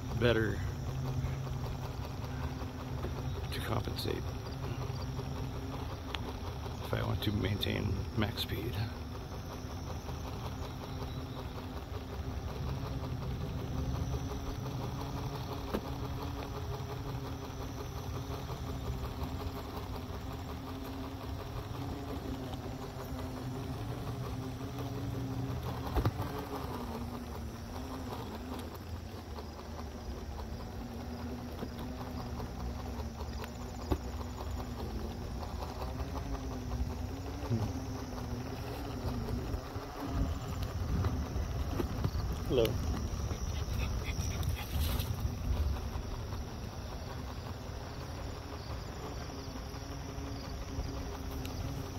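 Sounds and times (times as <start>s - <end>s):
hoverboard motors whining: 0.0s - 51.9s
wheels rumbling on concrete: 0.0s - 51.9s.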